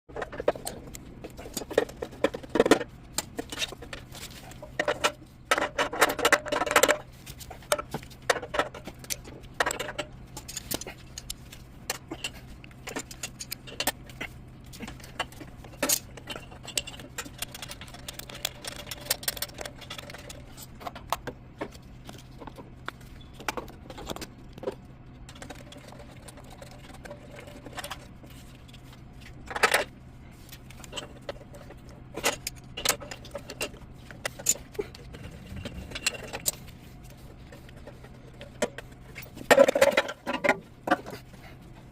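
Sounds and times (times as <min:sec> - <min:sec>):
low equipment hum: 0:00.1 - 0:41.9.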